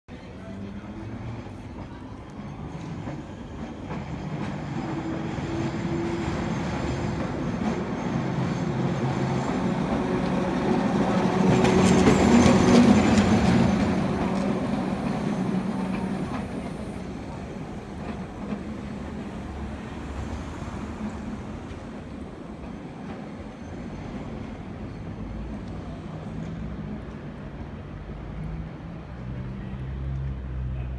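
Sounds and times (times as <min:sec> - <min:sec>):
electric tram humming and rumbling: 0:00.1 - 0:30.9.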